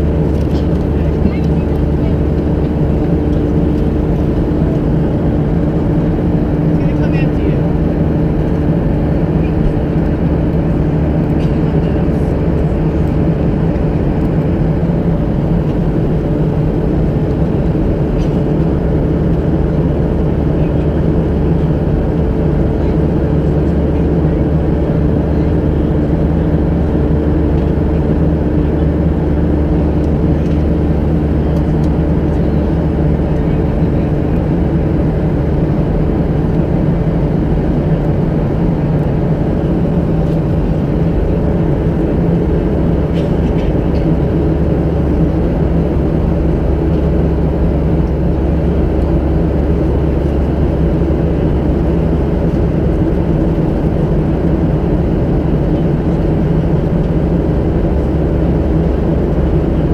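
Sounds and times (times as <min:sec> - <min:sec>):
airplane cabin drone: 0:00.0 - 0:59.9
low hum tones: 0:00.0 - 0:59.9.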